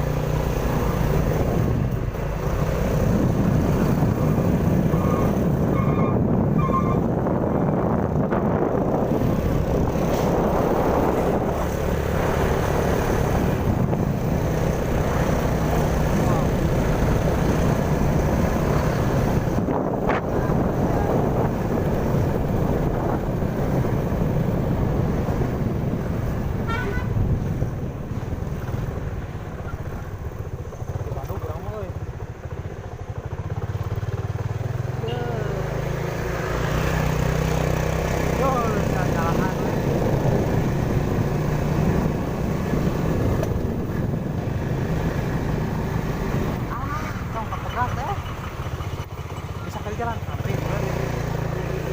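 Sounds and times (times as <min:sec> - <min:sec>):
road traffic rumble: 0:00.0 - 0:51.9
wind buffeting microphone: 0:01.1 - 0:34.9, 0:35.7 - 0:51.9.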